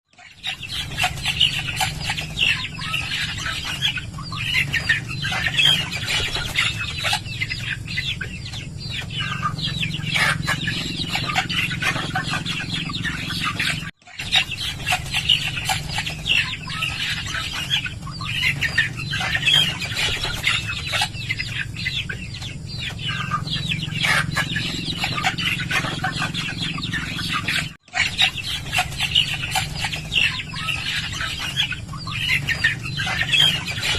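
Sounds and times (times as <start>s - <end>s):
chickens clucking: 0.1s - 33.9s
steady low hum: 0.4s - 33.9s.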